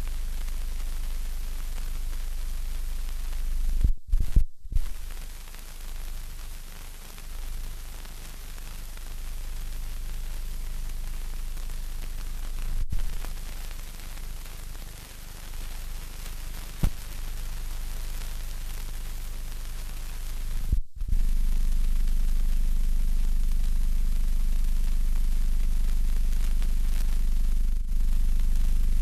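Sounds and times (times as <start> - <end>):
film soundtrack hiss: 0.0 - 29.0.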